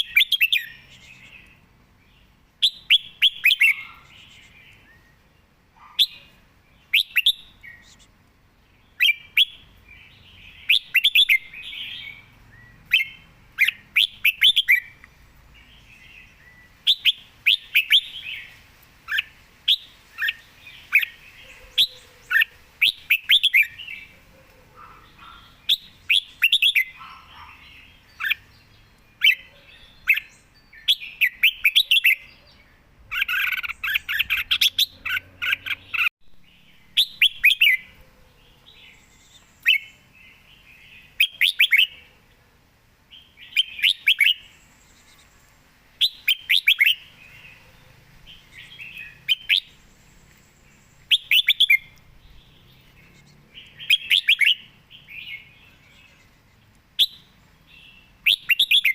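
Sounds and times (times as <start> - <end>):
bulbul singing: 0.0 - 42.1, 43.1 - 58.9.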